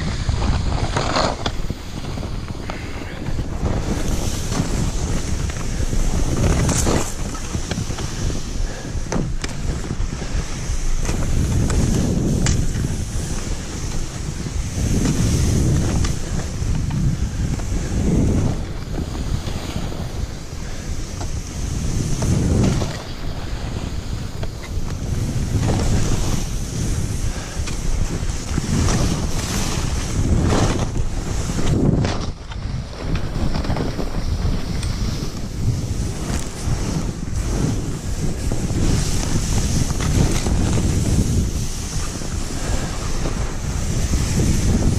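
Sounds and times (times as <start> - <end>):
skis scraping over snow: 0.0 - 44.9
wind buffeting microphone: 0.0 - 44.9.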